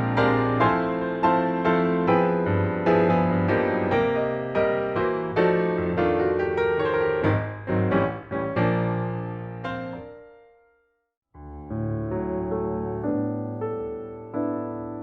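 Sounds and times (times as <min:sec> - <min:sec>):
gentle piano chords: 0:00.0 - 0:10.6, 0:11.4 - 0:15.0.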